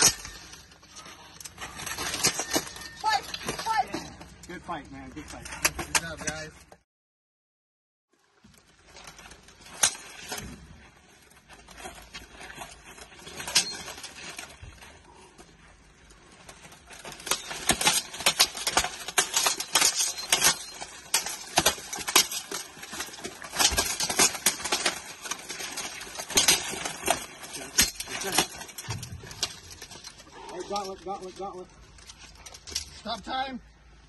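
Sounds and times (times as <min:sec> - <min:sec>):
armour clatter: 0:00.0 - 0:06.8, 0:08.1 - 0:33.3.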